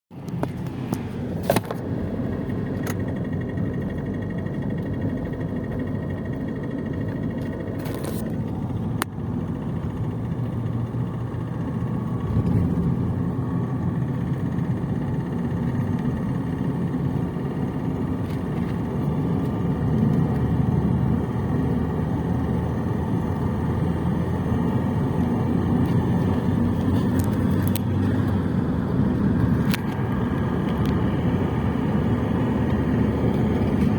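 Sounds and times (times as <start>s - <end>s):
diesel engine running: 0.1s - 33.9s
engine knocking: 0.4s - 33.9s.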